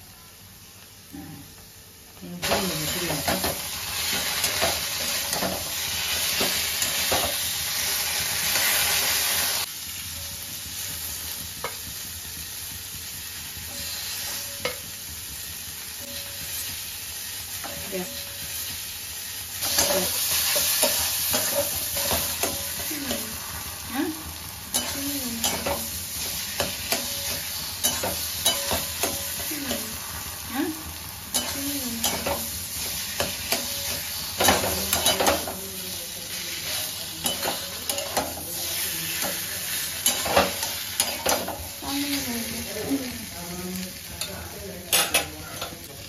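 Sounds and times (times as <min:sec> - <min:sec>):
frying sizzle: 0:00.0 - 0:46.0.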